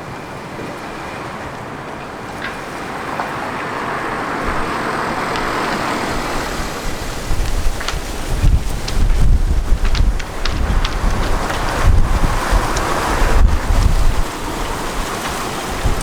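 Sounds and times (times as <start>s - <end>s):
road vehicle passing: 0.0s - 16.0s
wind buffeting microphone: 0.0s - 16.0s.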